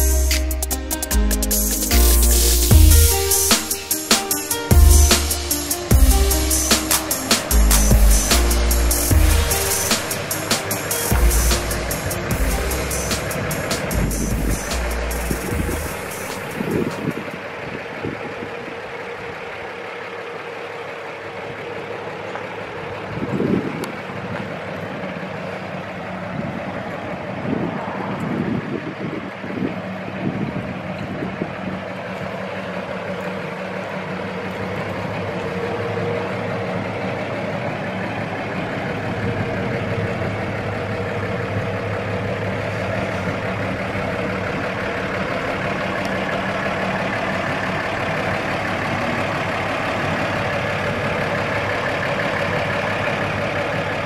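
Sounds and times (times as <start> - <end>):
pickup engine idling: 0.0 - 54.0.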